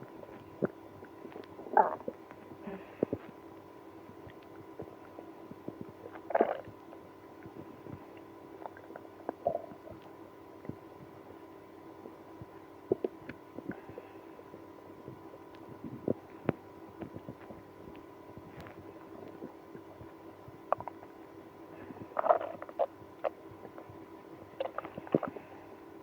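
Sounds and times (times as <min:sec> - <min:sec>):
faint steady hum: 0:00.0 - 0:26.0
stomach gurgling: 0:00.0 - 0:26.0.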